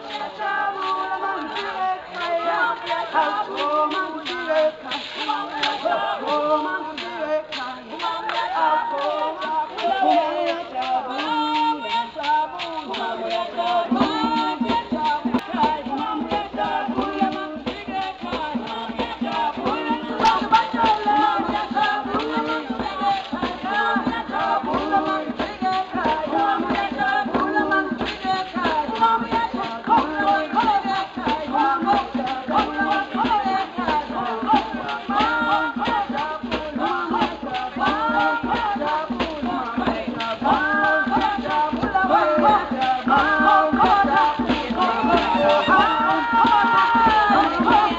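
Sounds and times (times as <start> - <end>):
music with quick beat: 0.0 - 47.9
shaker rattle: 0.0 - 47.9.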